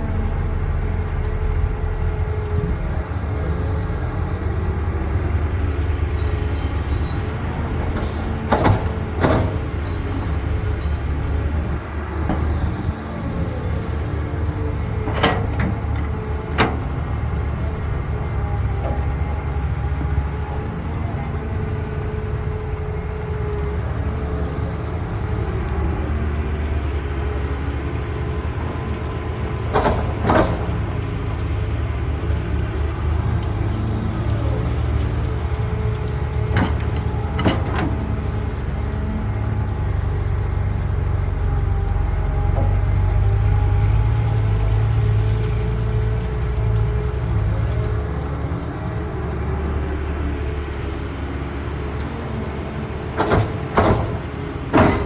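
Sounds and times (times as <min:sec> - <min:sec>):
diesel excavator engine whining: 0:00.0 - 0:55.0.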